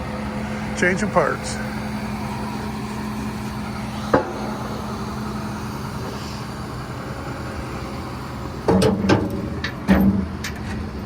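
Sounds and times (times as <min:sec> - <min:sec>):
machinery engine idling: 0:00.0 - 0:11.0.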